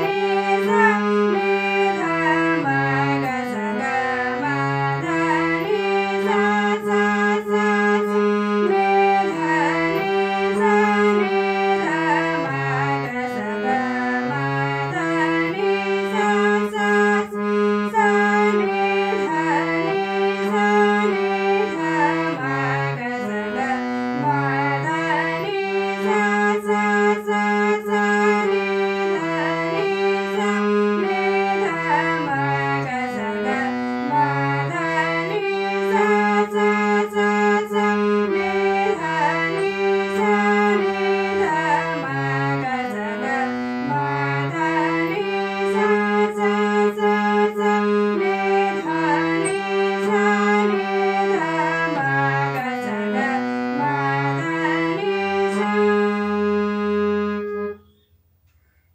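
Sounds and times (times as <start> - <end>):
harmonium melody: 0.0 - 58.9.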